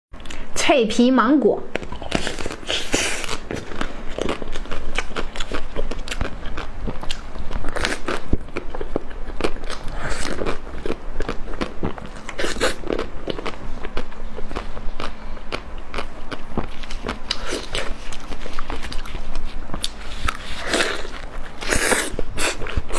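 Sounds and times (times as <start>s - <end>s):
crunchy chewing: 1.7s - 22.9s.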